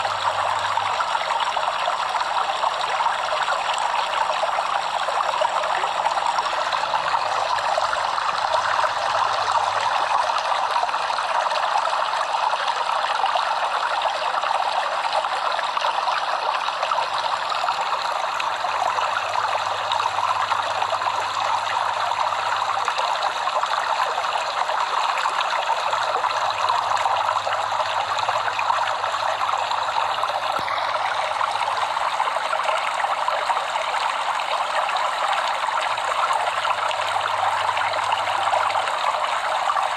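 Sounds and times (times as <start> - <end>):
stream water trickling over stones: 0.0 - 39.9.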